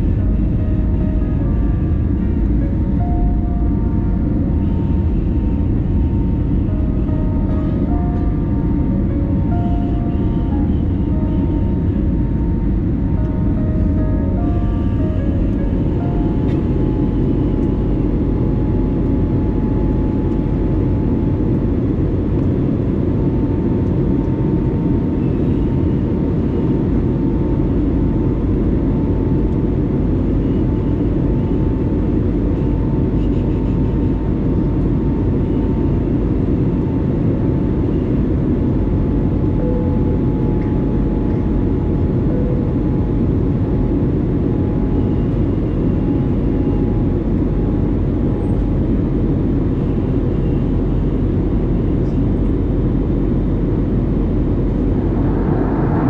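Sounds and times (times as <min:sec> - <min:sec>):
aircraft cabin engine rumble: 0:00.0 - 0:56.0
faint steady whine: 0:00.0 - 0:56.0.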